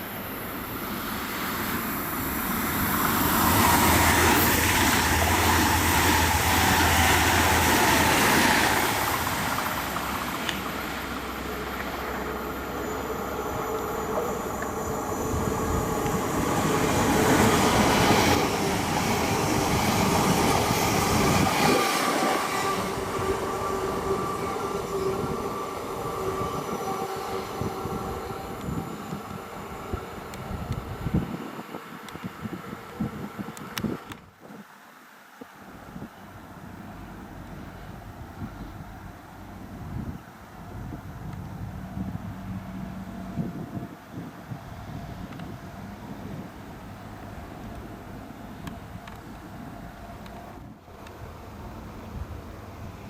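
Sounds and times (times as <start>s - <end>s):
electric train running past: 0.0s - 34.2s, 35.9s - 53.0s.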